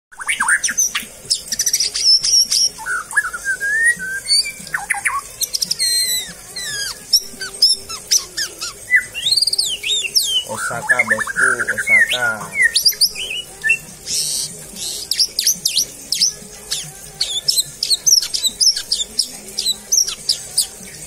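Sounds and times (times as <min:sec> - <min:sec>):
bird singing whistles and trills: 0:00.1 - 0:21.0.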